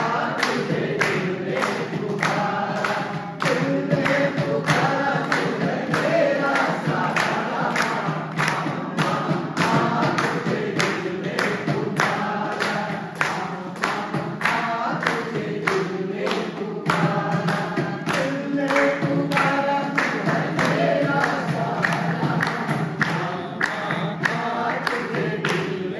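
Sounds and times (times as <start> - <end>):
group singing: 0.0 - 25.9
hands clapping: 0.0 - 25.9.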